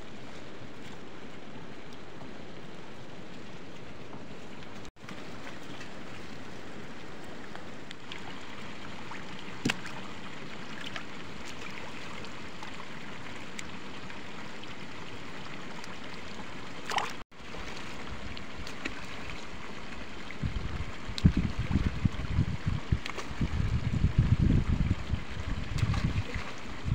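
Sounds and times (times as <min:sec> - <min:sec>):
water pouring from pipe into pond: 0:05.0 - 0:26.9.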